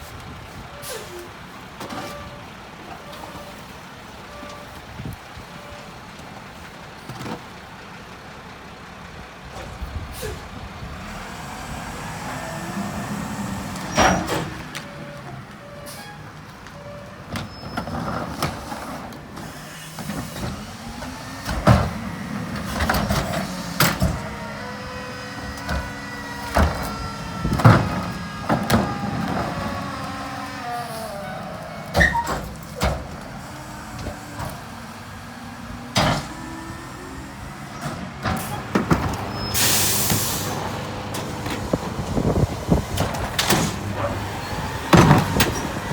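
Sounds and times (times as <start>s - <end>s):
garbage truck engine revving: 7.2s - 45.9s.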